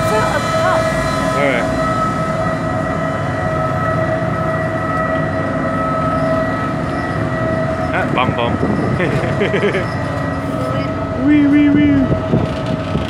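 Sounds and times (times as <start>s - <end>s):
ferry engines low rumble: 0.0s - 13.0s
steady machinery whine: 0.0s - 13.0s.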